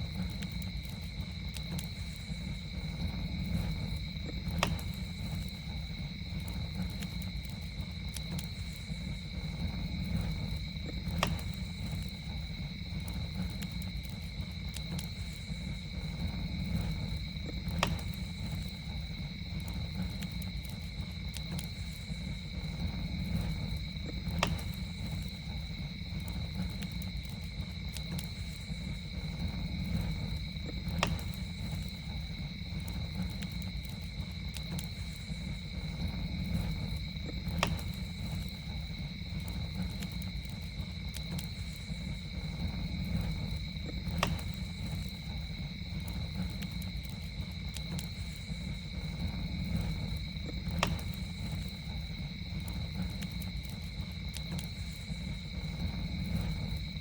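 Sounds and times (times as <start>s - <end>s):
campfire crackling: 0.0s - 57.0s
insect trill like crickets: 0.0s - 57.0s.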